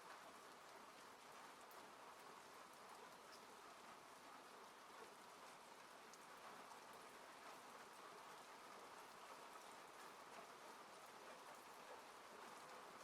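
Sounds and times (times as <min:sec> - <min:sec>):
rain falling on a car: 0:00.0 - 0:13.0.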